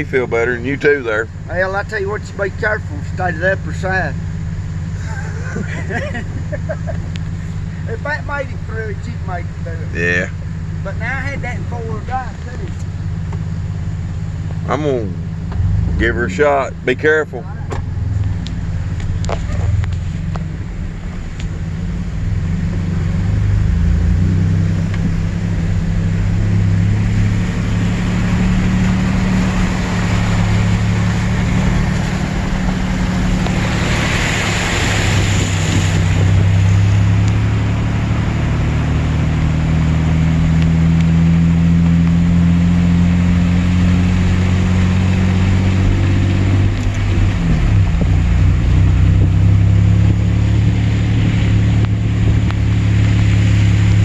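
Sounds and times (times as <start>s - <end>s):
vehicle engine running under load: 0.0s - 54.0s
water splashing against vehicle: 0.0s - 54.0s.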